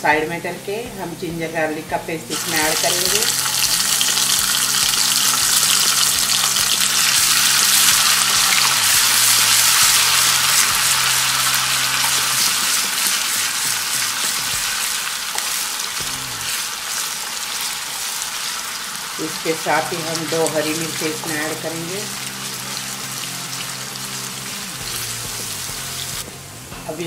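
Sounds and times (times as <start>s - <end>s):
hot oil sizzling: 2.3s - 27.0s.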